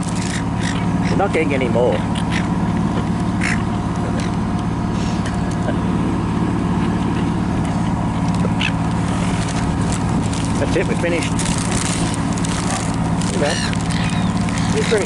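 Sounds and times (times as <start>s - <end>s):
seagulls squawking: 0.0s - 4.5s, 6.5s - 15.0s
low engine hum: 0.0s - 15.0s.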